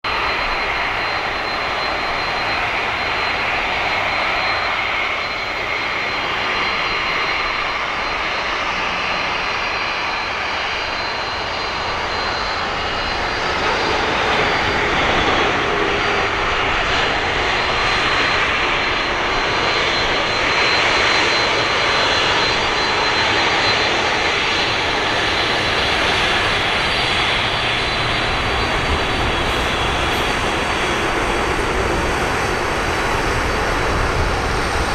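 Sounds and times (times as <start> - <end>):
jet engine roar: 0.0 - 34.9.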